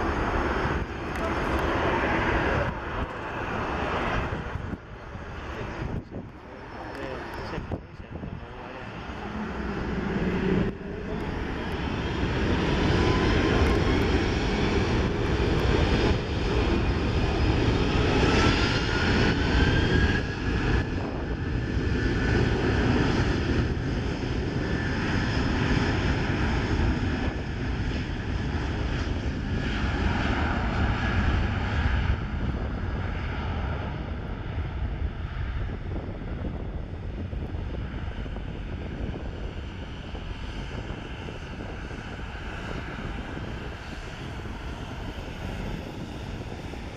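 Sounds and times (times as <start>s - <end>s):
jet engines at takeoff power: 0.0s - 46.9s.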